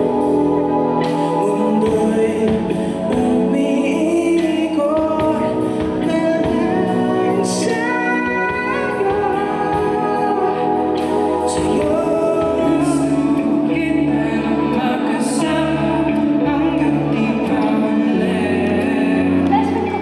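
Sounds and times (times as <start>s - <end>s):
music with singing: 0.0s - 20.0s.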